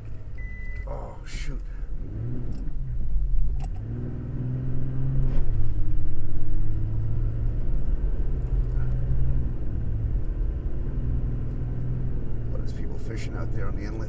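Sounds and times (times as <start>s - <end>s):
pickup engine drone: 0.0s - 14.0s.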